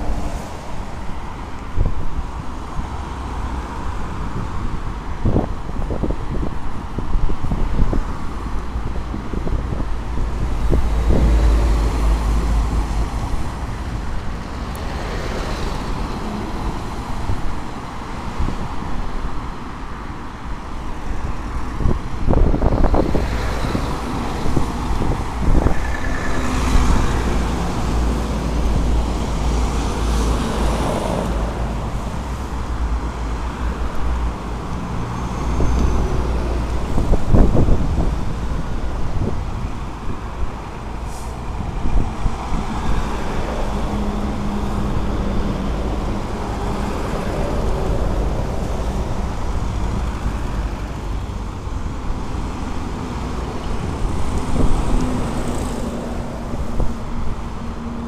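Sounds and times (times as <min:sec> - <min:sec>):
cars driving past: 0:07.5 - 0:19.0, 0:21.0 - 0:58.0.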